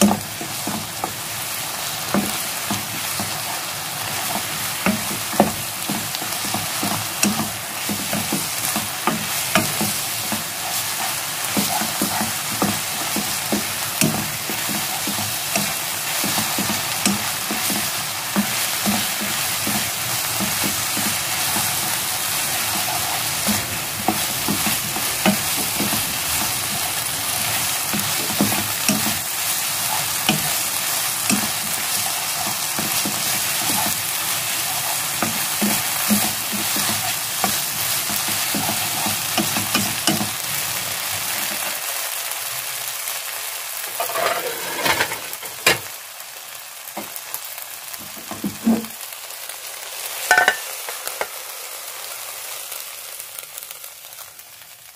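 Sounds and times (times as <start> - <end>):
chopsticks tapping and scraping pan: 0.0 - 40.5, 43.9 - 45.9, 48.0 - 49.0, 50.3 - 51.4
noodles sizzling in oil: 0.0 - 54.9.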